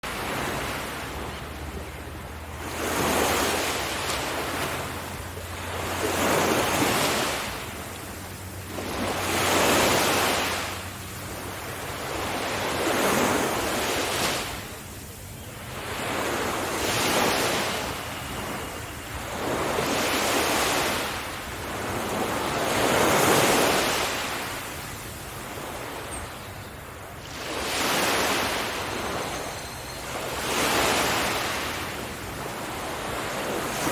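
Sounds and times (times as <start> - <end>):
ocean waves breaking on a beach: 0.0 - 33.9.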